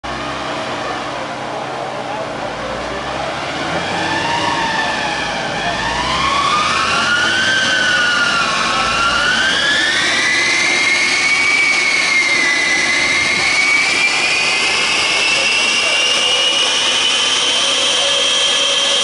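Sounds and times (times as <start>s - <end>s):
dyno rollers whining: 0.0s - 19.0s.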